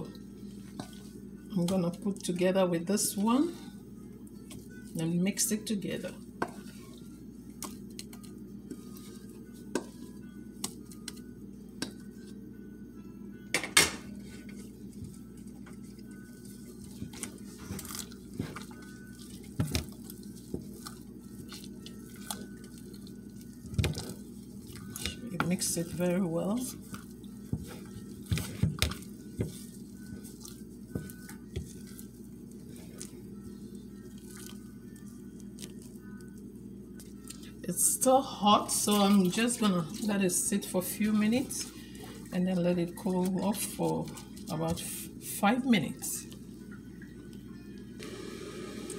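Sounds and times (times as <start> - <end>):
wet squishing of dough: 0.0 - 11.2, 14.2 - 46.6
low steady hum: 0.0 - 48.9.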